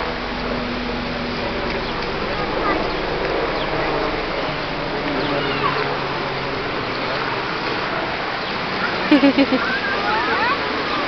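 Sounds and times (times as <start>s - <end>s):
faint high chirping glides: 0.0s - 11.0s
murmur of crowd: 0.0s - 11.0s.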